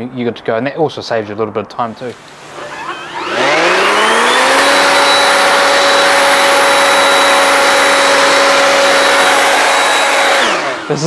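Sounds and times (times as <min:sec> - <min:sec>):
leaf blower whining: 0:02.1 - 0:11.0.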